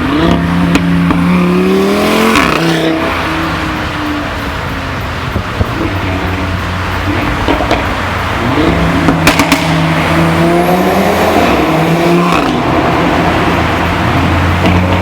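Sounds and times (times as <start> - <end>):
car engine accelerating: 0.0 - 15.0
exhaust cracks: 0.0 - 15.0.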